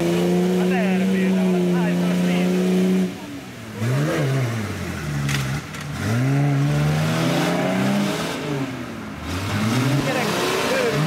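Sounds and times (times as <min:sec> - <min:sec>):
engine revving hard: 0:00.0 - 0:11.0.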